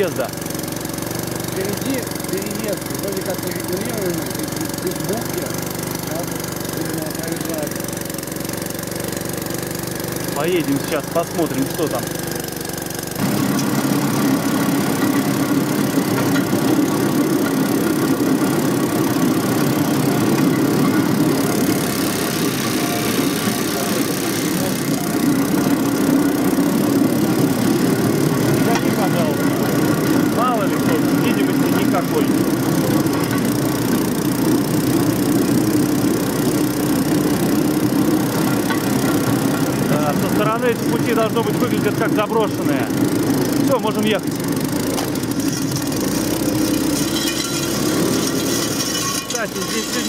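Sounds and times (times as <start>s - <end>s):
rail cart engine running: 0.0s - 50.0s.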